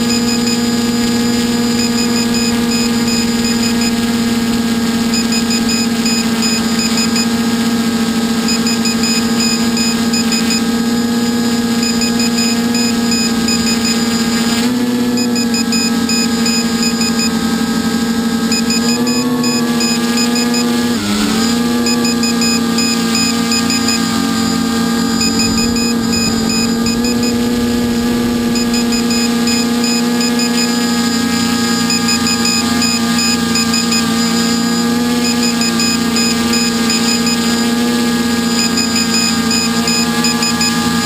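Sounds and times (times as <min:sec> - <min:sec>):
drone propellers whining: 0:00.0 - 0:41.0.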